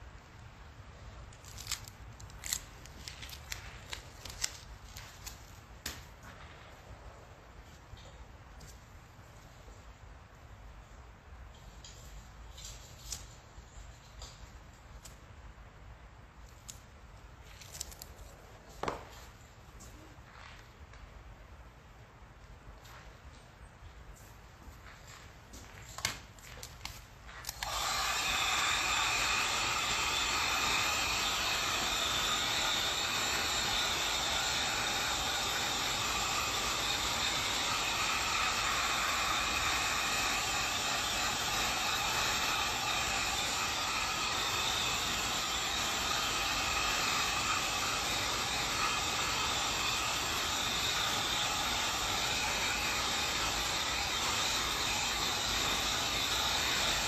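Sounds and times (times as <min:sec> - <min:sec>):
heat gun blowing with fan whine: 0:00.1 - 0:20.8, 0:25.1 - 0:57.0.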